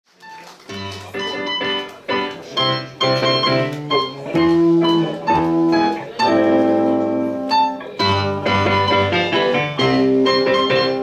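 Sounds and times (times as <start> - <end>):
organ-like keyboard chords: 0.8 - 11.0.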